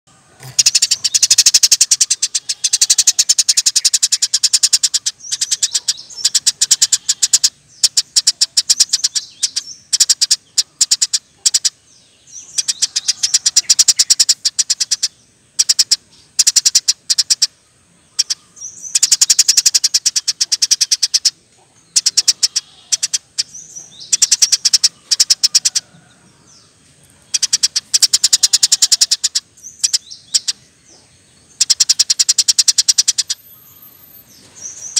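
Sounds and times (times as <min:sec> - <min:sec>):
sparrow chattering chirps: 0:00.4 - 0:34.9.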